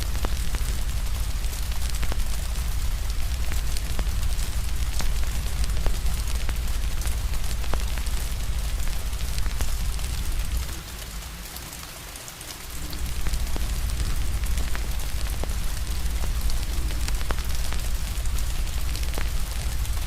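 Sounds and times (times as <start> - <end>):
deep low rumble: 0.0 - 10.8, 12.8 - 20.0
fire crackling and popping: 0.0 - 11.3, 12.6 - 20.0
steady rain: 0.0 - 20.0.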